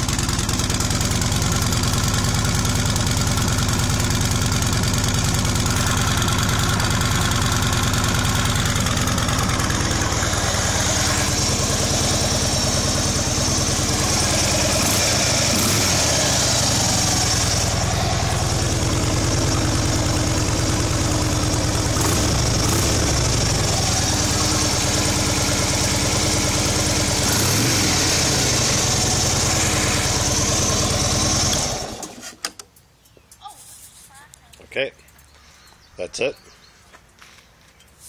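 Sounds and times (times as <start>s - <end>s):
motorcycle engine idling: 0.0s - 32.2s.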